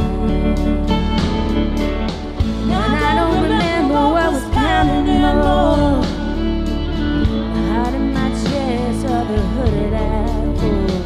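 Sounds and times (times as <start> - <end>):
person singing: 0.0 - 1.6, 2.6 - 6.8, 7.5 - 11.0
country karaoke backing track: 0.0 - 11.0.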